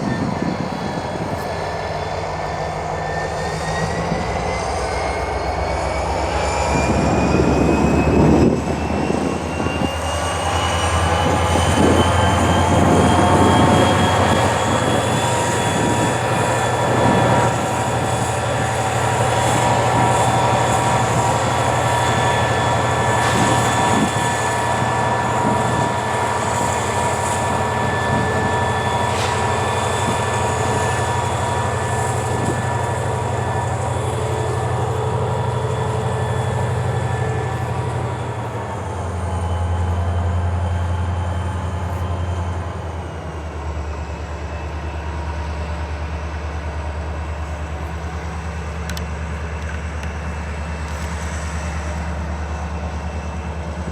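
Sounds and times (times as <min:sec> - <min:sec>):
drone propellers whining: 0:00.0 - 0:53.8.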